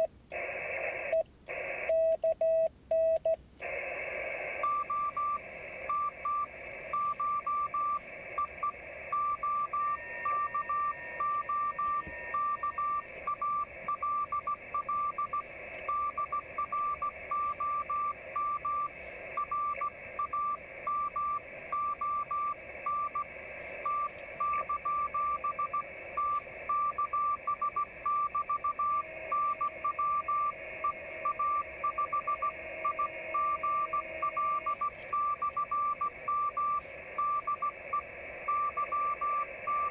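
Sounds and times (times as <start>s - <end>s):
receiver hiss: 0.0s - 39.9s
morse code beeping tone: 4.5s - 39.9s.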